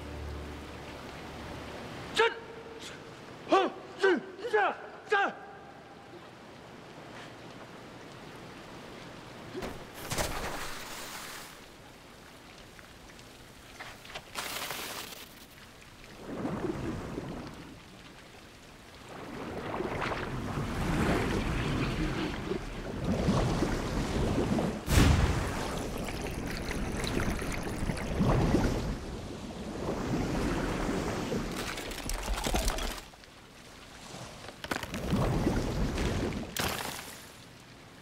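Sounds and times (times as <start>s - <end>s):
water rushing and swirling: 0.0s - 3.9s, 6.2s - 38.0s.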